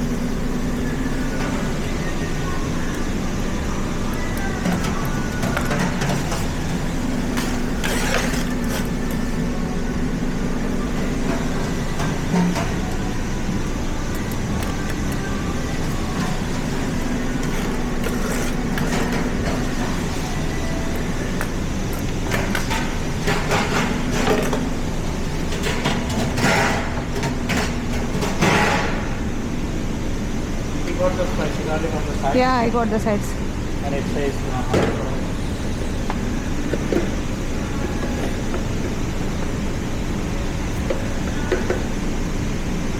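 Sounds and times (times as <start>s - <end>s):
mechanical drone with low hum: 0.0s - 42.9s.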